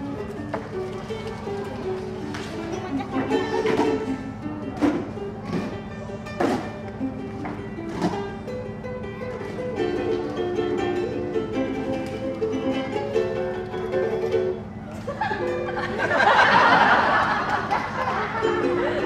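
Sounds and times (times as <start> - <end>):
ukulele plucked single notes: 0.0 - 15.8.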